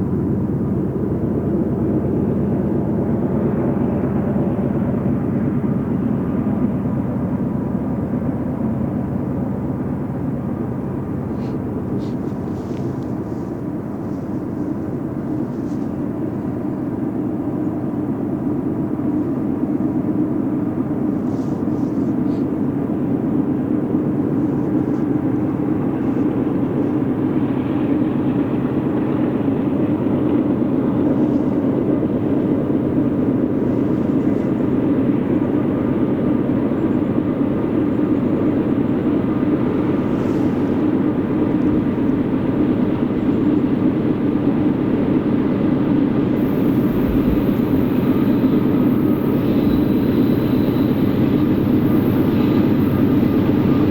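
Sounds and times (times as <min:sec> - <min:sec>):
diesel train rumbling past: 0:00.0 - 0:53.9.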